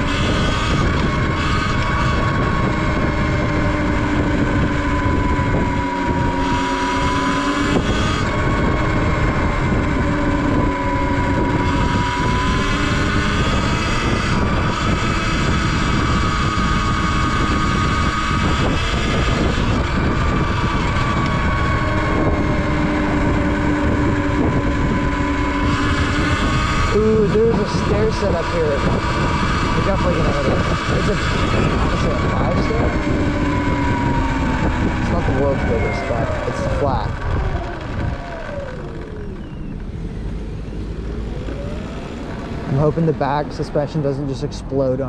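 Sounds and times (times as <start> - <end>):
wind rushing: 0.0 - 39.4
electric motor whining: 0.0 - 45.0.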